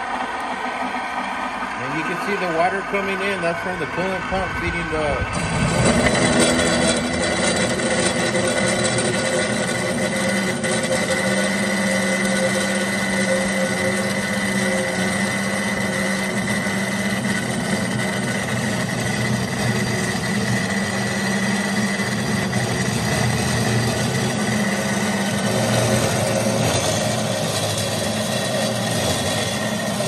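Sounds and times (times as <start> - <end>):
cold saw motor hum: 0.0 - 30.0
saw blade whine cutting metal pipe: 0.0 - 30.0.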